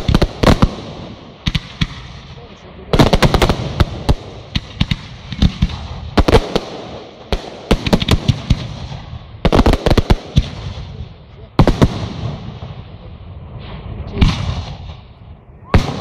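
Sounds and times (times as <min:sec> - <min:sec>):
firework bangs: 0:00.0 - 0:16.0
firework crackle: 0:00.0 - 0:16.0.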